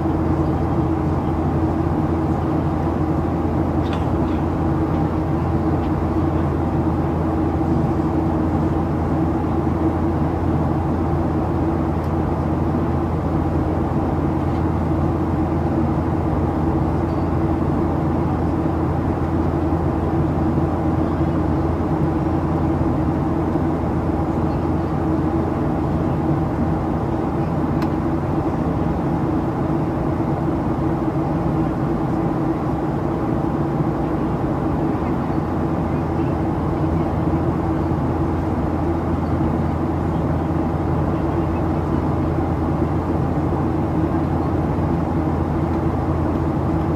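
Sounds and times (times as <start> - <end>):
engine fan buzzsaw tone: 0.0 - 46.9
jet engines droning in cabin: 0.0 - 46.9.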